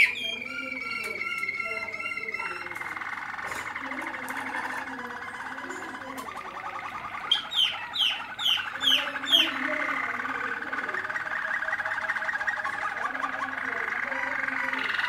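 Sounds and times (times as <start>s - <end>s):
canary fast-pulsing trill: 0.0s - 15.0s
canary sharp falling chirps: 0.0s - 15.0s.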